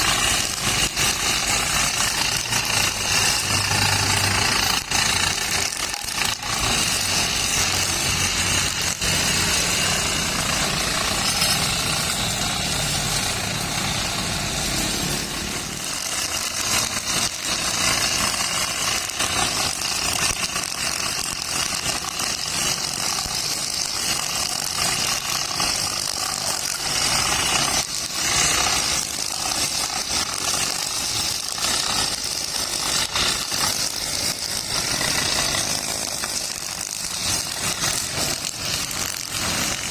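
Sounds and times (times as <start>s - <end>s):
brush cutter engine running: 0.0s - 39.9s
string line cutting grass: 0.0s - 39.9s.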